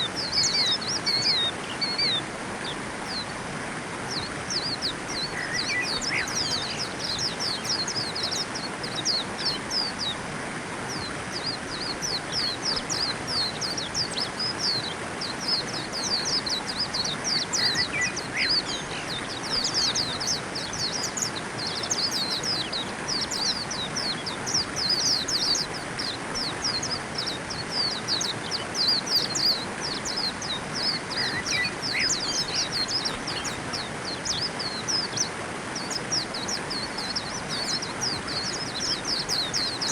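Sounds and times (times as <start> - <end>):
birds twittering: 0.0 - 39.9
steady background hiss: 0.0 - 39.9.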